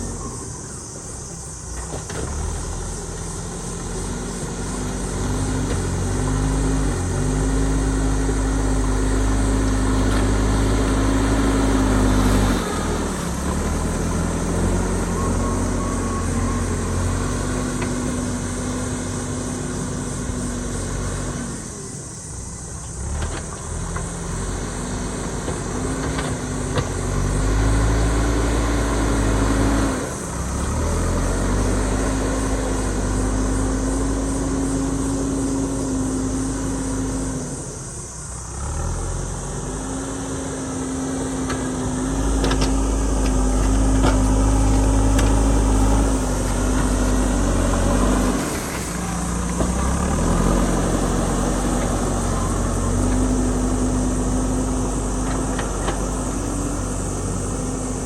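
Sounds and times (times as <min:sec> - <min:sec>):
diesel engine rumbling under load: 0:00.0 - 0:58.0.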